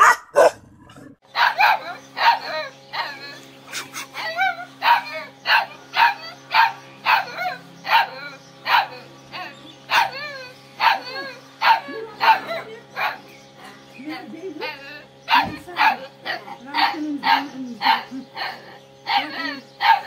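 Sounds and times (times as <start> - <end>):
puppy barking high-pitched: 0.0 - 0.6, 1.3 - 13.2, 15.3 - 20.0.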